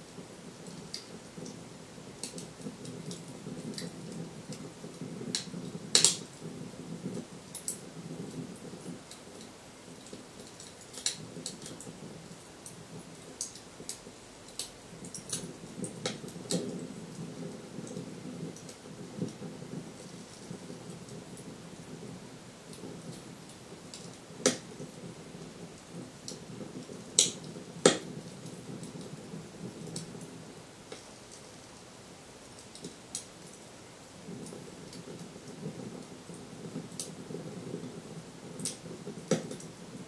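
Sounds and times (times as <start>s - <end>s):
fire crackling over loudspeakers: 0.0s - 40.0s.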